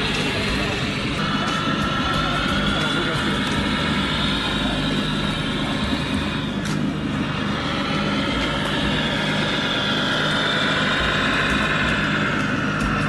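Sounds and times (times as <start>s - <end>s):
toy truck motor drone and whine: 0.0s - 13.0s.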